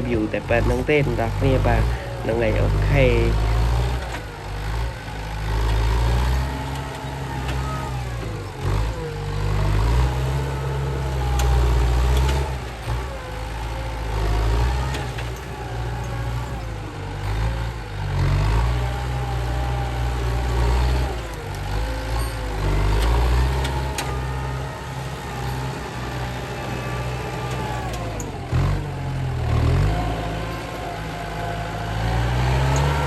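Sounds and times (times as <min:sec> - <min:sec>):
heavy diesel engine revving: 0:00.0 - 0:33.0.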